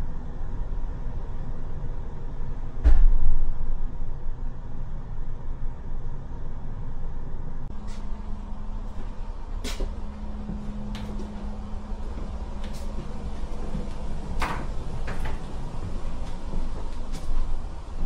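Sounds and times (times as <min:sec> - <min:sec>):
tram cabin rumble with hum: 0:00.0 - 0:18.0.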